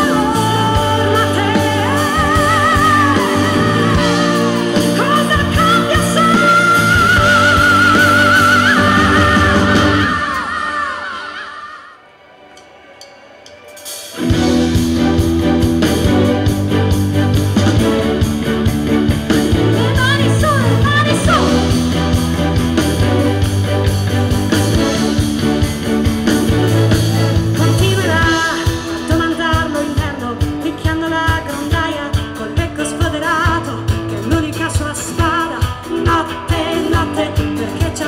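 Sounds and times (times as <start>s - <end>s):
live rock band playing: 0.0s - 11.8s, 12.6s - 38.0s.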